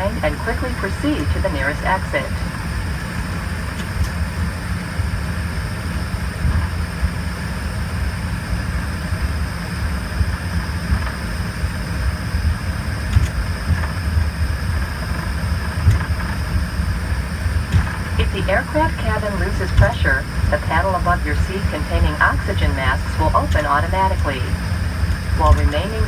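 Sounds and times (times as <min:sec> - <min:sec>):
faint jet engine whine: 0:00.0 - 0:26.0
jet cabin rumble: 0:00.0 - 0:26.0.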